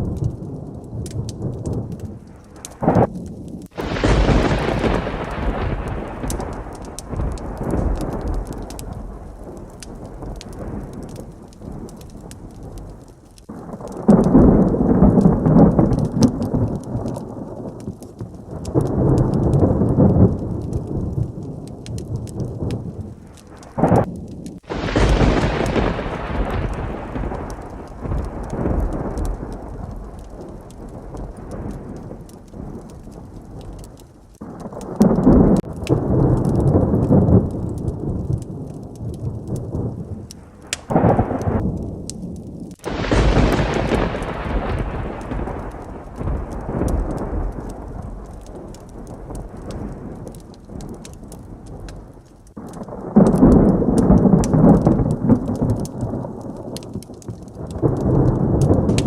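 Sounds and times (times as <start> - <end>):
heavy rain: 0.0 - 59.0
rolling thunder rumbles: 0.0 - 59.0
sharp close thunderclap: 0.0 - 59.0.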